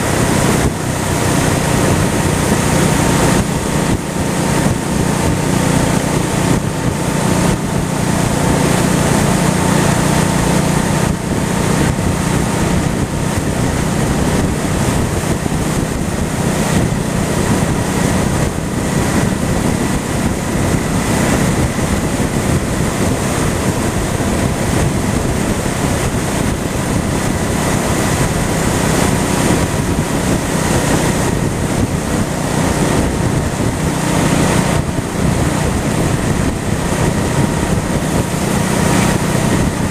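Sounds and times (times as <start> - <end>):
motorcycle engine running: 0.0 - 39.9
wind buffeting on microphone: 0.0 - 39.9.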